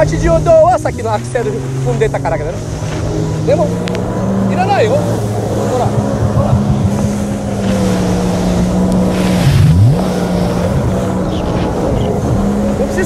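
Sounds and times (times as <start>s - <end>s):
jet ski engine running: 0.0s - 13.0s
water rushing: 0.0s - 13.0s
wind rushing: 0.0s - 13.0s.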